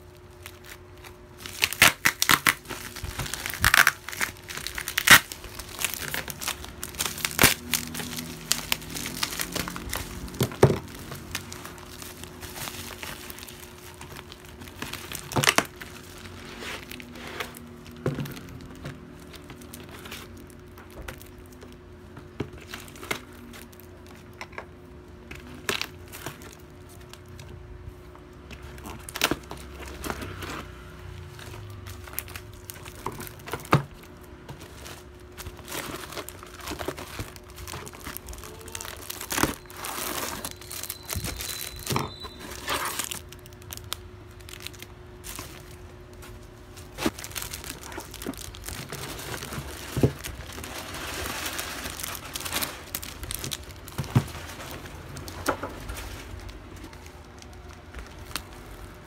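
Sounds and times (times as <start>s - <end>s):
bubble wrap crackles: 0.0s - 59.0s
bubble wrap crinkling: 0.0s - 59.0s.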